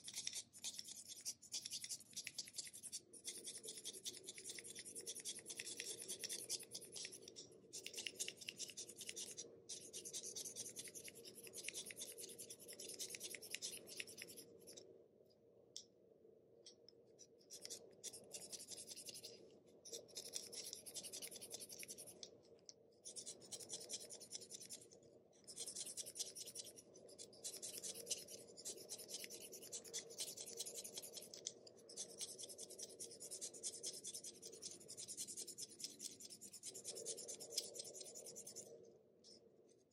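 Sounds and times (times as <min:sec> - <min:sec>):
knife scraping pencil: 0:00.0 - 0:14.8, 0:16.6 - 0:39.9.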